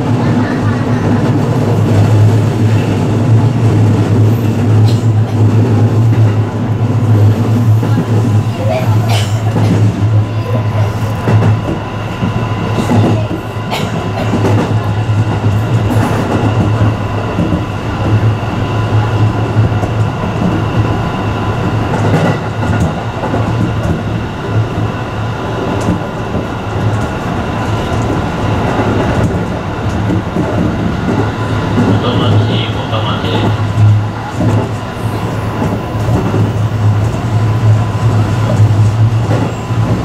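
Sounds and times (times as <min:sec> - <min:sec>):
train rumbling at speed: 0:00.0 - 0:40.0.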